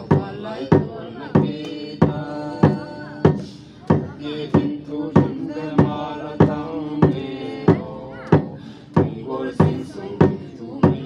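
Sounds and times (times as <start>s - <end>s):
drum beaten steadily: 0.0s - 11.0s
voices singing in unison: 0.0s - 11.0s.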